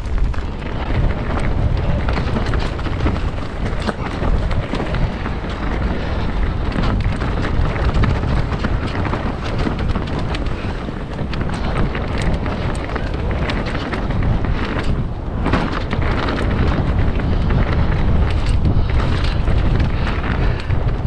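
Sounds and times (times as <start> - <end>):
bike clicks and rattles: 0.0 - 21.0
bike tyre noise: 0.0 - 21.0
wind rushing over microphone: 0.0 - 21.0.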